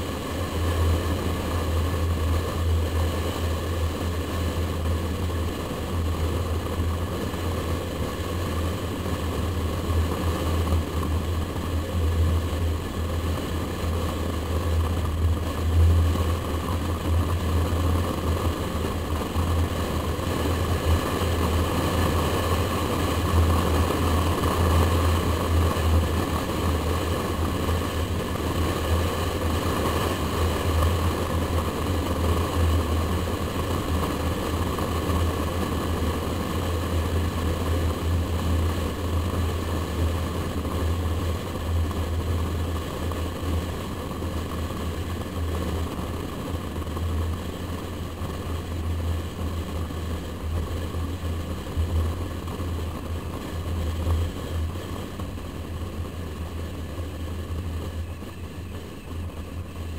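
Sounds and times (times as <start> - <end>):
wind rumble: 0.0 - 59.9.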